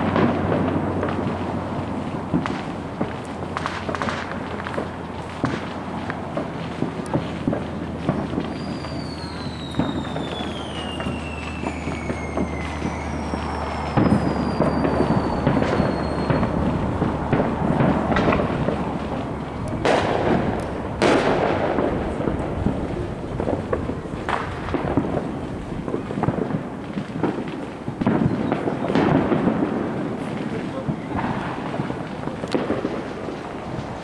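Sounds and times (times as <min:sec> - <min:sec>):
falling firework whistles: 0:00.0 - 0:34.0
fireworks crackling and banging: 0:00.0 - 0:34.0.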